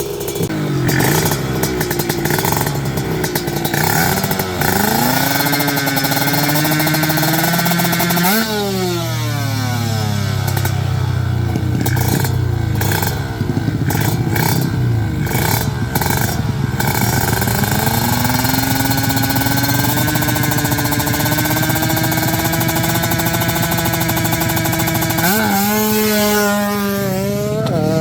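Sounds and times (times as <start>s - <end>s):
racing motorcycle engines revving: 0.0s - 28.0s.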